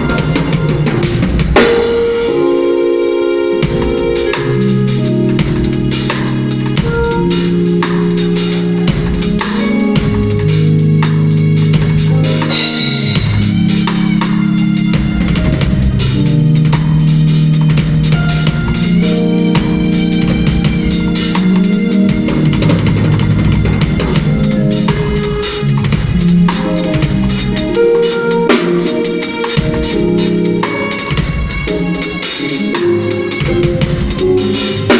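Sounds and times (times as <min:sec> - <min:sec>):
drum kit beat: 0:00.0 - 0:34.9
organ-like keyboard chords: 0:00.0 - 0:34.9.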